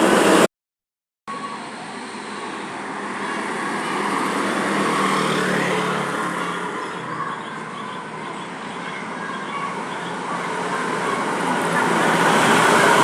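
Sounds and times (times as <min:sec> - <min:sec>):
bus driving past: 0:01.3 - 0:13.0.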